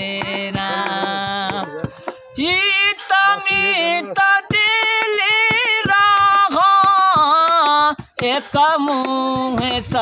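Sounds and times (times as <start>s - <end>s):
elderly man singing unaccompanied: 0.0s - 10.0s.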